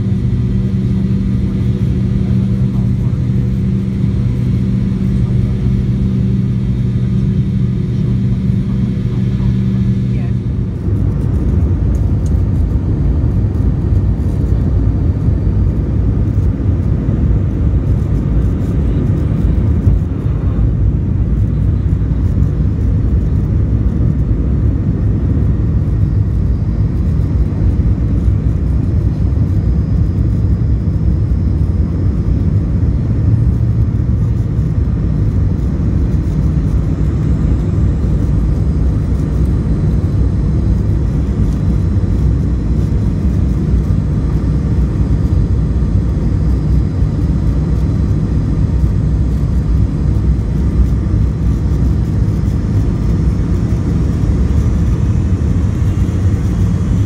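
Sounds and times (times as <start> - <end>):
faint high whine: 0.0 - 57.0
jet engine rumble: 0.0 - 57.0.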